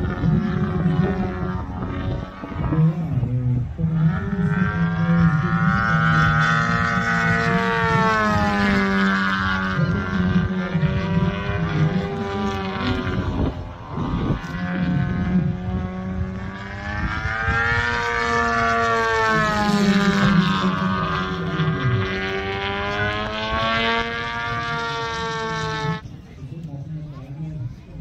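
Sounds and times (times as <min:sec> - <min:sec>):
model plane engine and propeller: 0:00.0 - 0:28.0.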